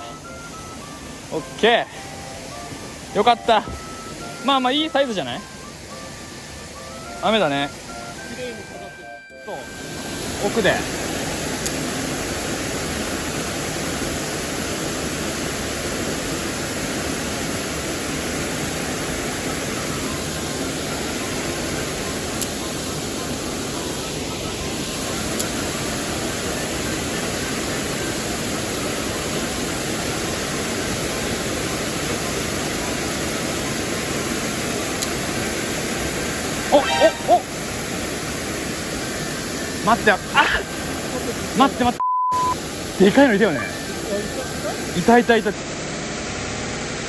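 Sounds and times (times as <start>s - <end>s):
stream water rushing over rocks: 0.0s - 47.0s.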